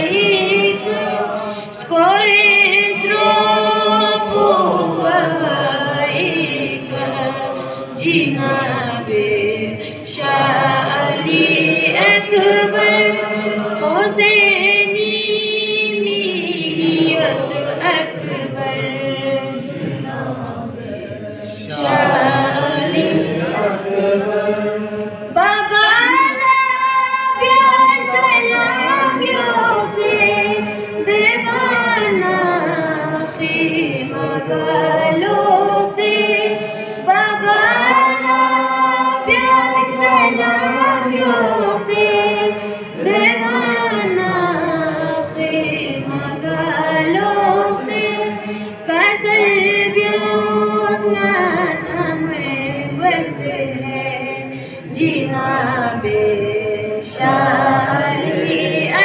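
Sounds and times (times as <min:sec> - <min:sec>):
person singing unaccompanied: 0:00.0 - 0:59.0.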